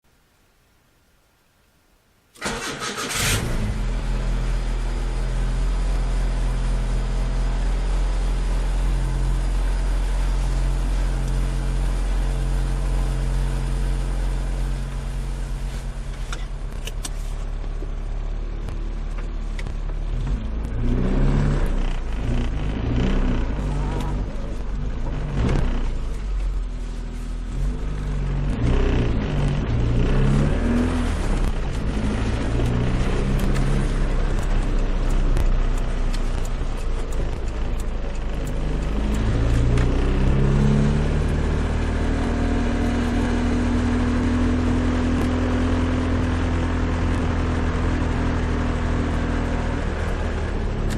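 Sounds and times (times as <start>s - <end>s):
car engine with droning exhaust: 3.1s - 50.9s.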